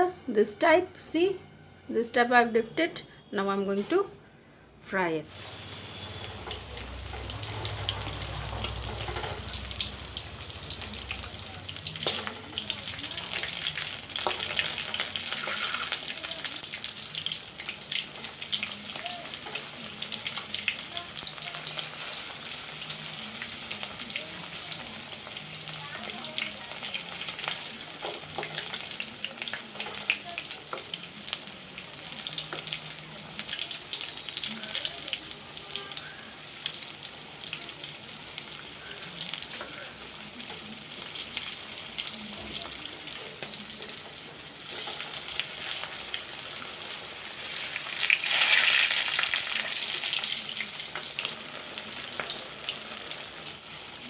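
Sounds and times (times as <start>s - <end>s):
food sizzling in hot oil: 5.3s - 54.0s.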